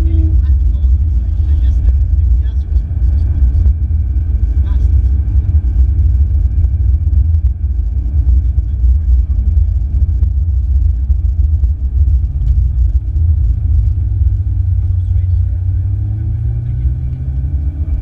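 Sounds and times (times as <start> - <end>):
car engine low rumble: 0.0 - 18.0
road noise: 0.0 - 18.0.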